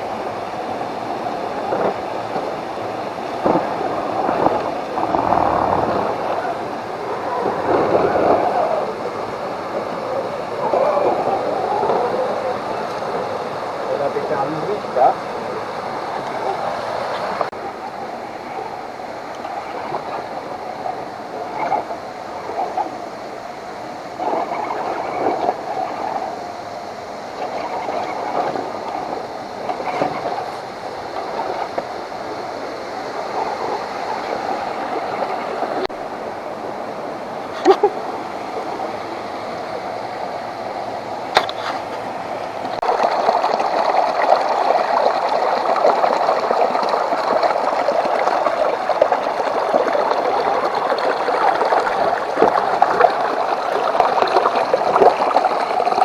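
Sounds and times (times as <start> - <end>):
water splashing and churning: 0.0 - 56.0.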